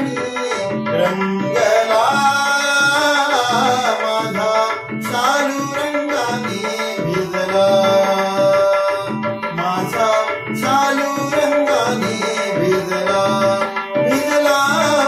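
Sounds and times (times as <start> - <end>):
man singing devotional song: 0.0 - 15.0
tabla rhythm: 0.0 - 15.0.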